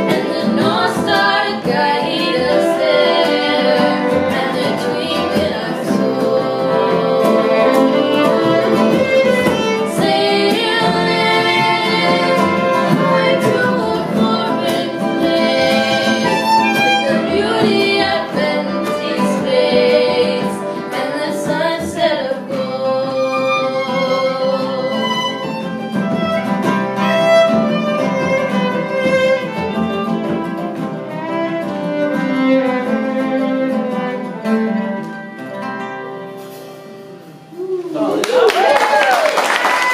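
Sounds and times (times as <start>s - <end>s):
fiddle playing lively melody: 0.0s - 36.4s
strummed acoustic guitar: 0.0s - 37.6s.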